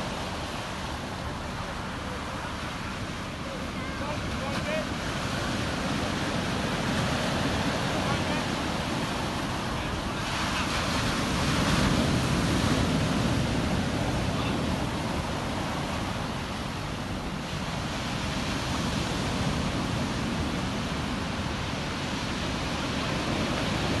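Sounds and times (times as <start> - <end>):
surf breaking on a beach: 0.0 - 24.0.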